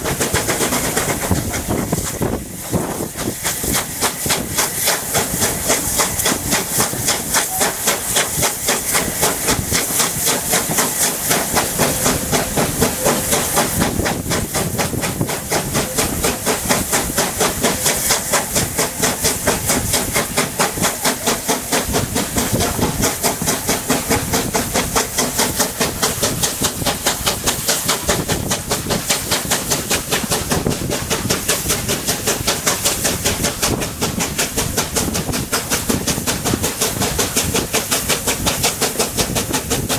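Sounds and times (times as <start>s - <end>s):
steam hiss and wind: 0.0s - 39.9s
steam locomotive exhaust beats: 0.0s - 39.9s.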